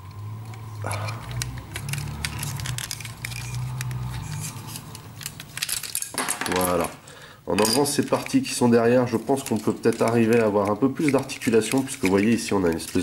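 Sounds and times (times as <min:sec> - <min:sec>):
plastic toy parts clicking: 0:00.4 - 0:06.9, 0:07.5 - 0:13.0.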